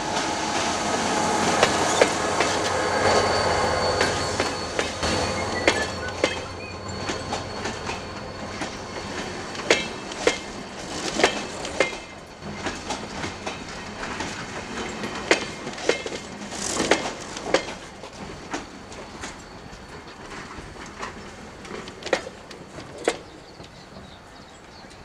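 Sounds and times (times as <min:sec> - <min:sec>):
train rolling rumble: 0:00.0 - 0:25.0
train wheels clacking over rail joints: 0:00.0 - 0:25.0.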